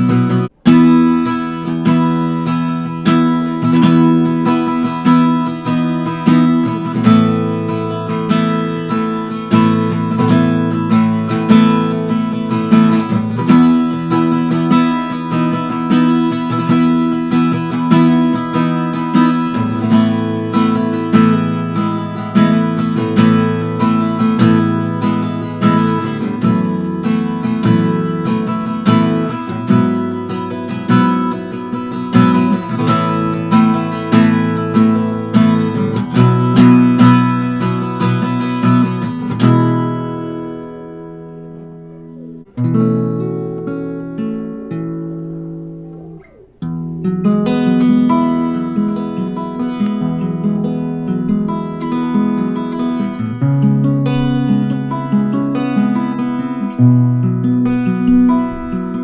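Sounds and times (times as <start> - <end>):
acoustic guitar chords strummed: 0.0 - 59.0.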